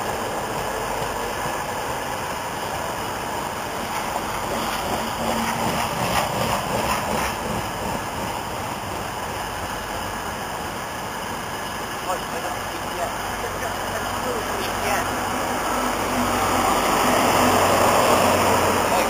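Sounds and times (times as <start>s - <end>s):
train coaches passing: 0.0s - 19.0s.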